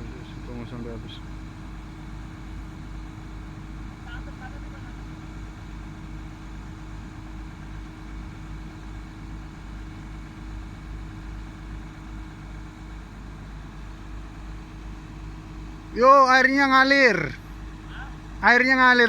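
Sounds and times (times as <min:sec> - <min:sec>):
diesel engine idling: 0:00.0 - 0:19.0
steady hum: 0:00.0 - 0:19.0.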